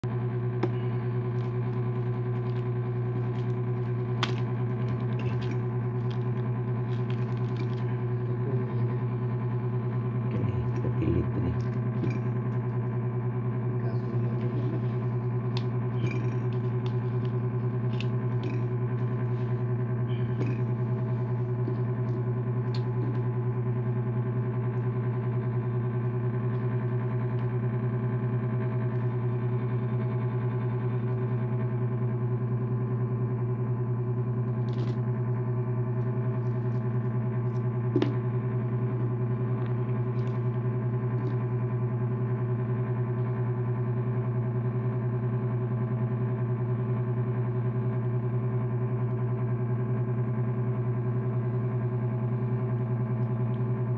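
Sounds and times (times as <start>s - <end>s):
steady buzzing hum: 0.0s - 53.9s.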